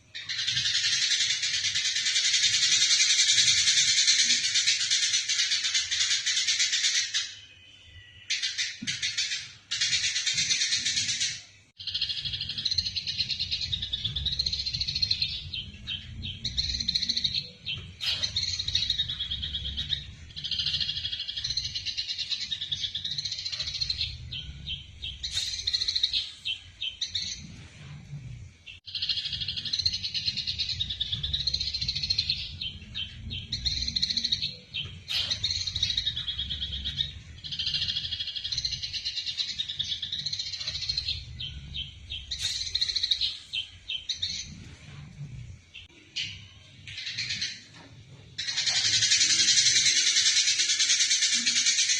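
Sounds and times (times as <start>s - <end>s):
sparrows chirping: 0.0s - 51.9s.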